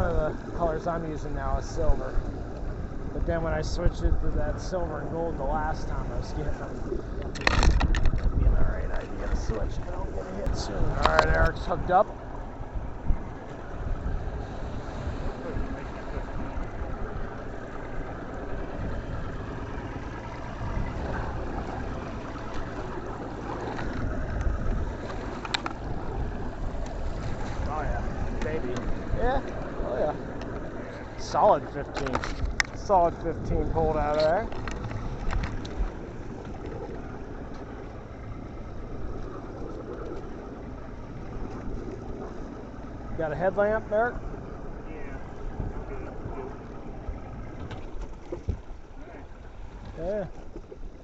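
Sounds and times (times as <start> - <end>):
boat motor running: 0.0 - 51.0
rough water: 0.0 - 51.0
wind: 0.0 - 51.0.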